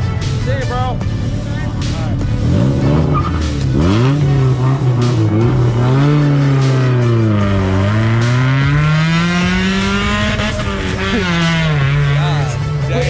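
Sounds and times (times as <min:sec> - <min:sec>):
car engine revving hard: 0:02.2 - 0:12.8.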